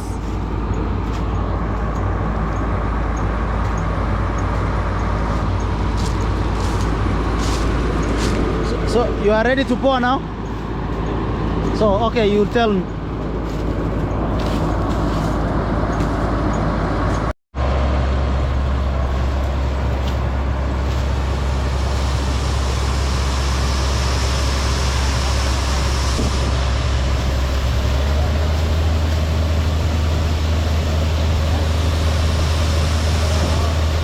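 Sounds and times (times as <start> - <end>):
combine harvester engine droning: 0.0 - 34.0.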